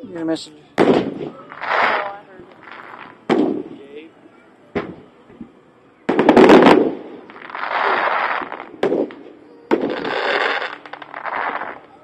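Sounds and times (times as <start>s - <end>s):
fireworks crackling: 0.0s - 4.1s, 6.1s - 12.0s
fireworks bangs: 0.8s - 4.1s, 4.7s - 5.5s, 6.1s - 12.0s.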